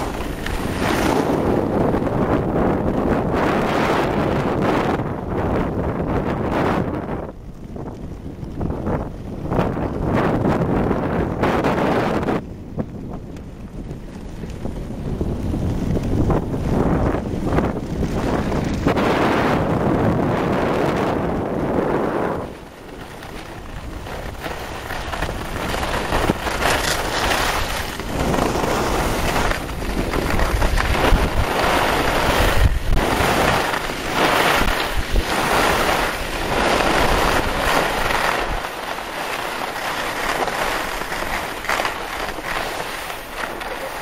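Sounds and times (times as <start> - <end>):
skis scraping over snow: 0.0 - 44.0
wind buffeting microphone: 0.0 - 44.0.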